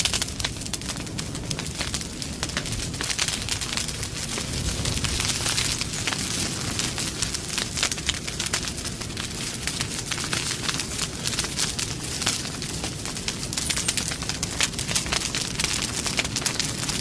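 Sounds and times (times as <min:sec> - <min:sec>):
campfire crackling and popping: 0:00.0 - 0:17.0
low rush of burning: 0:00.0 - 0:17.0.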